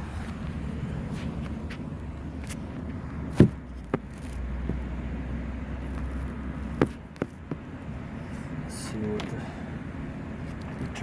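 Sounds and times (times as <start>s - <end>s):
air handler humming: 0.0s - 11.0s.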